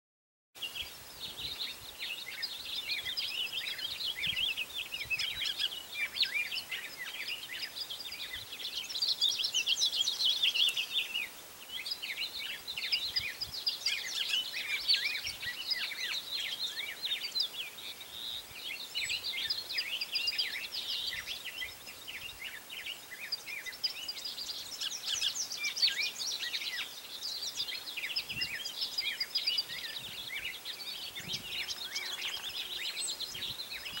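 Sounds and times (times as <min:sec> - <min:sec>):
songbirds chirping and trilling: 0:00.6 - 0:34.0.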